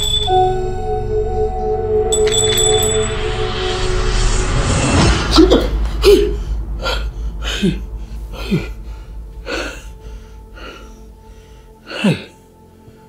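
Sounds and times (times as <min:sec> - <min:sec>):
low music drone: 0:00.0 - 0:13.0.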